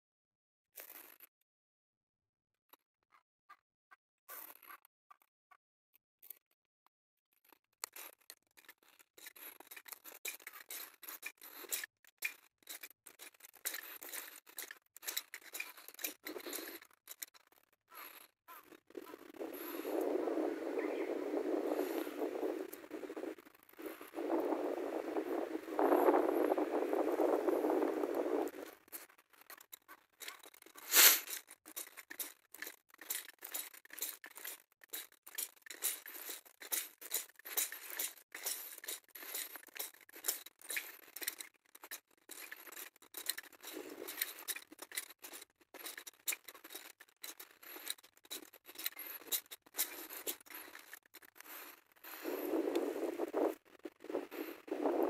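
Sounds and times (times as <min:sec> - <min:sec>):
faint clicks and rustles: 0:07.3 - 0:55.0.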